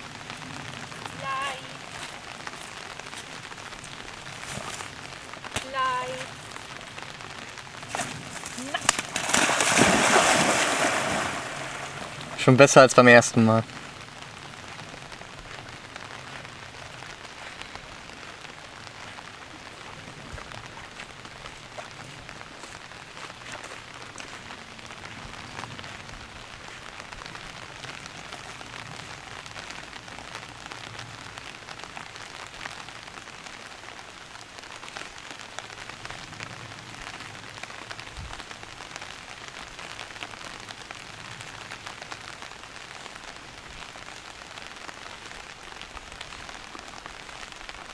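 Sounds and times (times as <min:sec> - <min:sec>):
light rain on water: 0:00.0 - 0:47.9.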